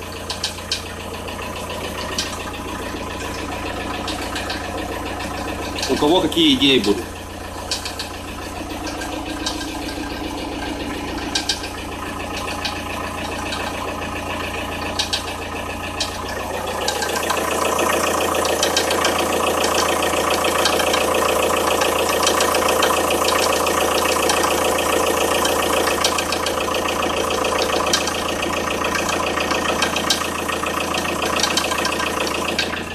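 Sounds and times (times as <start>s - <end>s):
diesel engine idling: 0.0s - 32.9s
uneven engine knocking: 0.0s - 32.9s.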